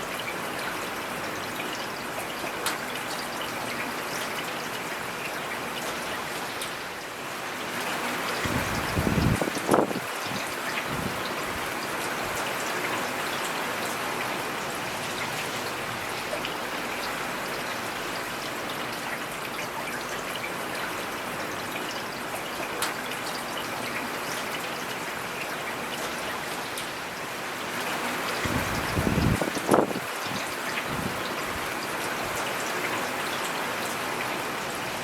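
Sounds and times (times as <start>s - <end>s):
close raindrops striking: 0.0s - 35.0s
rain falling in forest: 0.0s - 35.0s.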